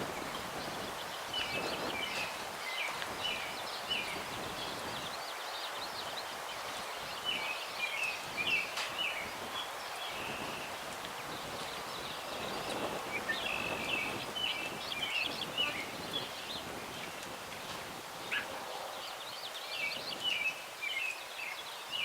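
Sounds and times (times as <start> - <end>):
breeze rustling branches: 0.0 - 22.0
small songbirds chirping: 0.0 - 22.0.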